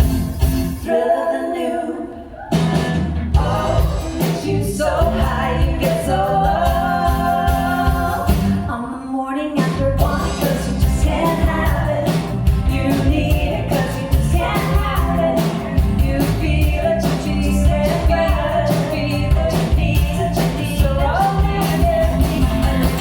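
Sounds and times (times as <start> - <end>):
rock band playing live: 0.0 - 0.9, 2.5 - 8.7, 9.6 - 23.0
steady drum beat: 0.0 - 0.9, 2.5 - 8.7, 9.6 - 23.0
lead singer singing: 0.8 - 23.0.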